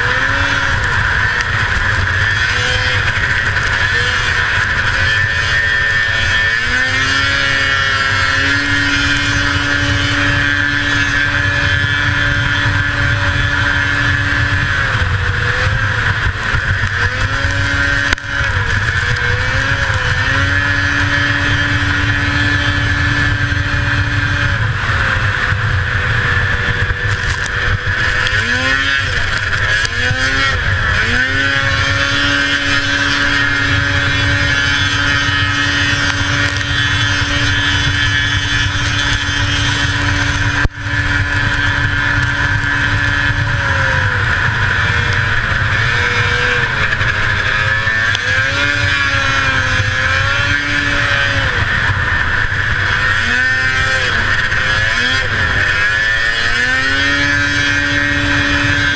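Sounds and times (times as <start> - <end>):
two-stroke engine running hard: 0.0 - 58.9.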